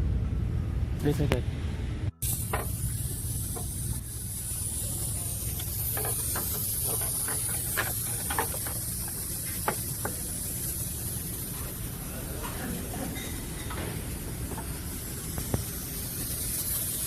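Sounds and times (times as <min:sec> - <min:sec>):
engine humming and hissing: 0:00.0 - 0:17.0.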